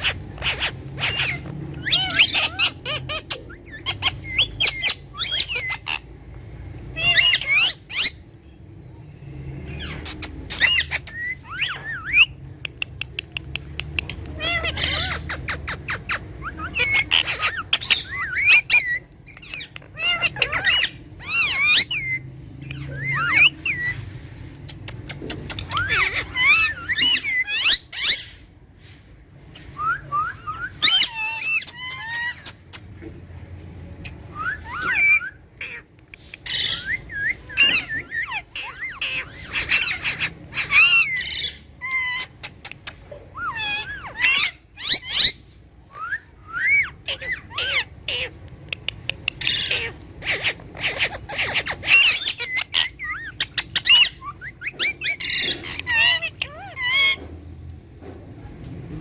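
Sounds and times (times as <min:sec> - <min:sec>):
parrots squawking and whistling: 0:00.0 - 0:57.6.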